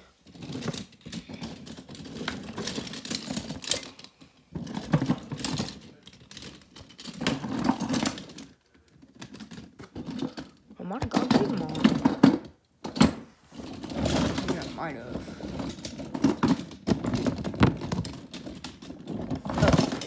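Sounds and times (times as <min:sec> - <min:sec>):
toy trucks clattering and clicking: 0:00.0 - 0:20.0.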